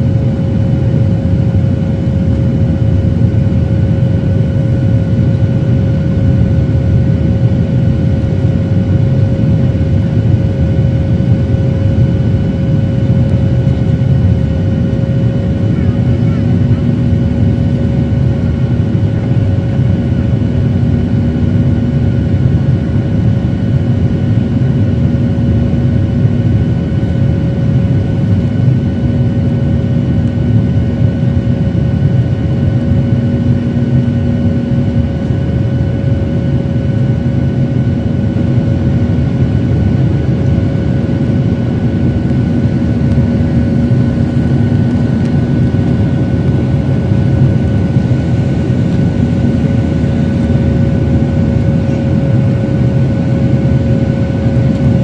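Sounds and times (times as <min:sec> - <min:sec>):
jet engine drone in cabin: 0:00.0 - 0:55.0
low hum: 0:00.0 - 0:55.0.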